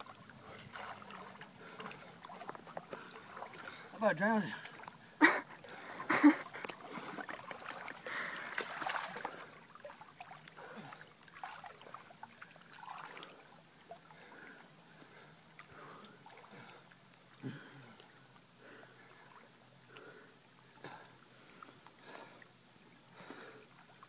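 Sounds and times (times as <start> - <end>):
water lapping and splashing: 0.0 - 24.0.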